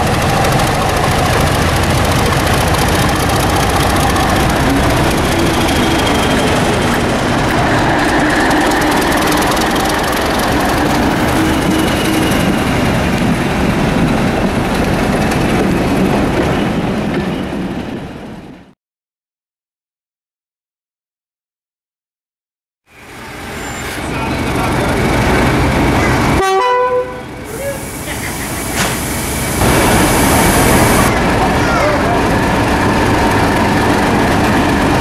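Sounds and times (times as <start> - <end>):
diesel locomotive engine running: 0.0 - 17.0, 22.9 - 26.5, 27.1 - 35.0
train coaches rolling on rails: 0.0 - 18.6, 22.9 - 35.0.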